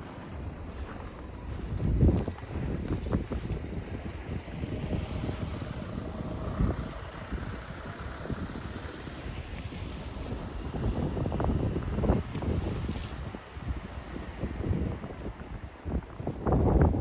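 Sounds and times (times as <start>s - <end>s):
vehicle passing: 0.0s - 15.6s
wind buffeting microphone: 0.0s - 17.0s.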